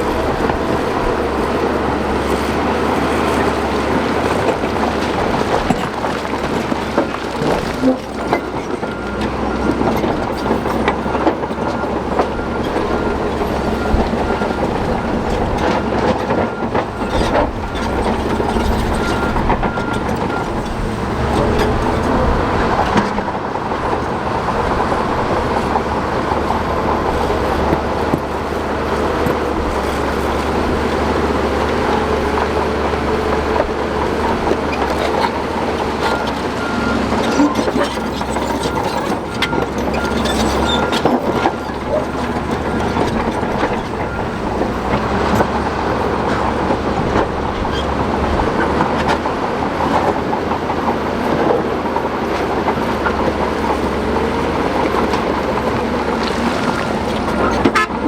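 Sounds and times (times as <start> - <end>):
rock being pushed: 0.0 - 50.2, 52.4 - 58.0
bulldozer diesel engine under load: 0.0 - 58.0
steel tracks clanking and rattling: 0.0 - 58.0.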